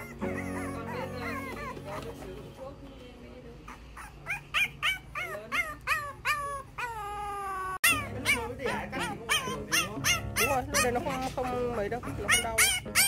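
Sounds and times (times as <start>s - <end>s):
puppies whining: 0.0s - 2.8s, 3.5s - 13.0s.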